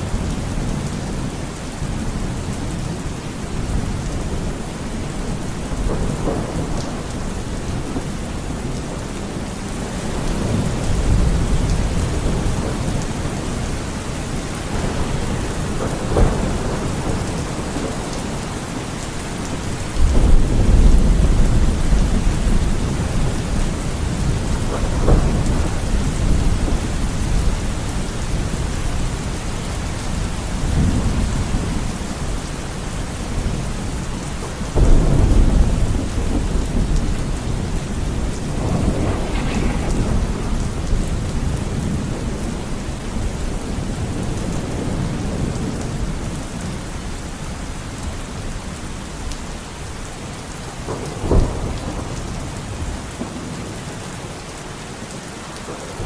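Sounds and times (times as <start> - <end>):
rolling thunder rumbles: 0.0 - 54.5
steady rain: 0.0 - 56.0.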